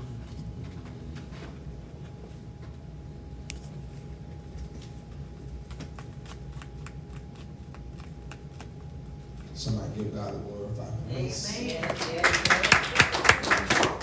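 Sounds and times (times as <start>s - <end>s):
faint steady hum: 0.0s - 14.0s
low room rumble: 0.0s - 14.0s.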